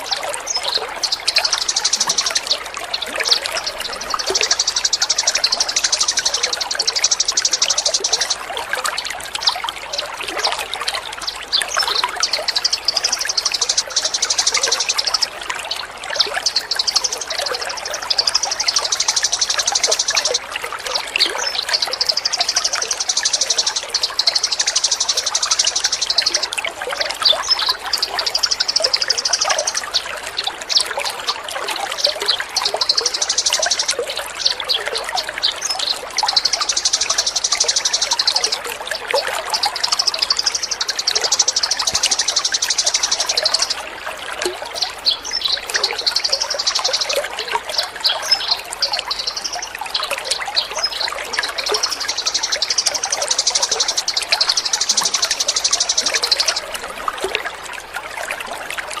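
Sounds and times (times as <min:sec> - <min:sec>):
songbird trilling: 0:00.0 - 0:08.9, 0:09.5 - 0:15.4, 0:16.2 - 0:43.9, 0:44.7 - 0:57.3
trickling water: 0:00.0 - 0:59.0.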